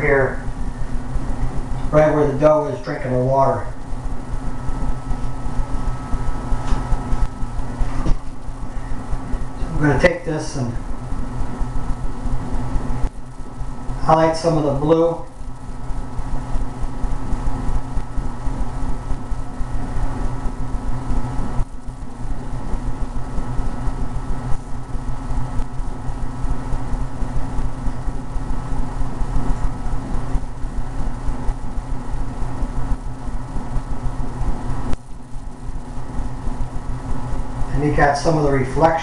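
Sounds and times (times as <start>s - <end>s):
loud mechanical hum: 0.0s - 39.0s.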